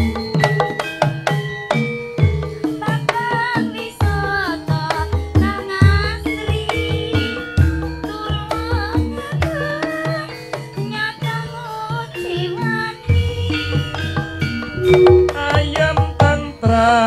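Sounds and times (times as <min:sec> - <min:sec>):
hand drums beating: 0:00.0 - 0:17.0
high wavering melody: 0:00.0 - 0:17.0.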